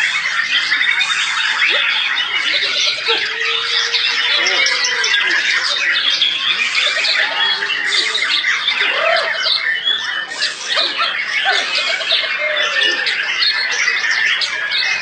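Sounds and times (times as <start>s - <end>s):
birds singing in chorus: 0.0s - 15.0s.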